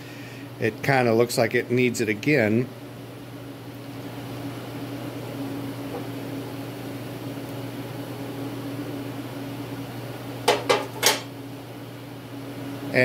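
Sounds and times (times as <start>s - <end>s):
heater fan humming: 0.0s - 13.0s.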